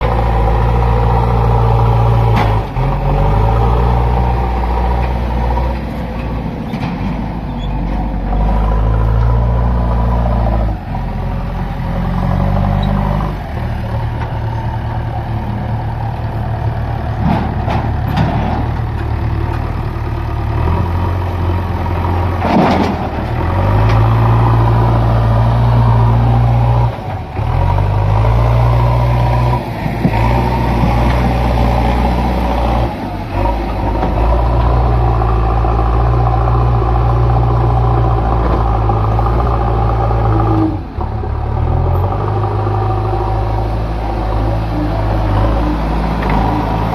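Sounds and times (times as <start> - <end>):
diesel engine under load: 0.0 - 46.9.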